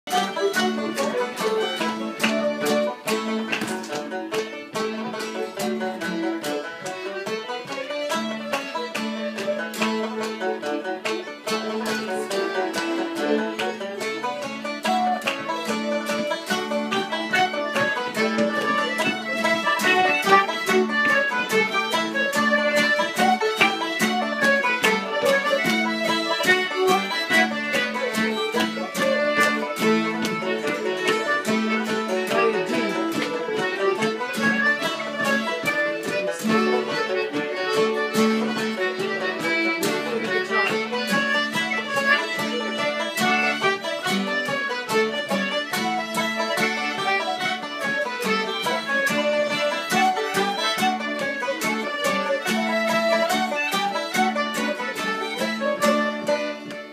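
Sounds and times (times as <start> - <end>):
banjo: 0.0 - 56.9
fiddles bowing melody: 0.0 - 56.9
strummed acoustic guitar: 0.1 - 56.9.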